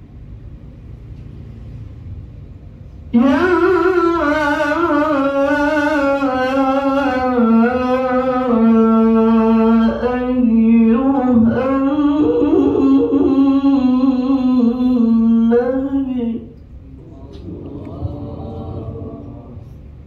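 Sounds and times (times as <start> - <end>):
man chanting into microphone: 3.1 - 20.0.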